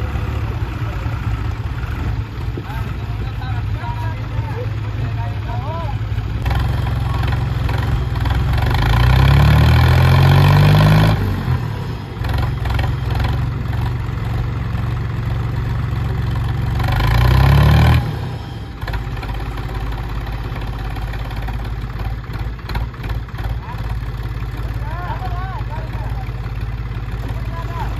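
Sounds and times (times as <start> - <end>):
diesel tractor engines labouring: 0.0 - 27.9.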